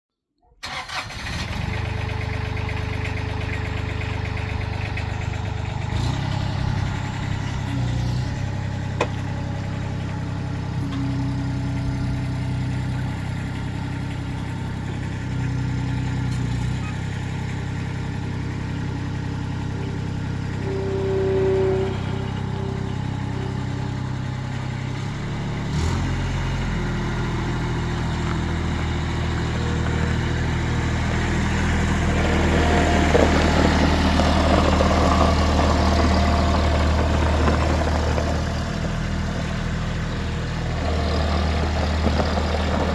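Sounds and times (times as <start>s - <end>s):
diesel engine idling: 0.6s - 42.9s.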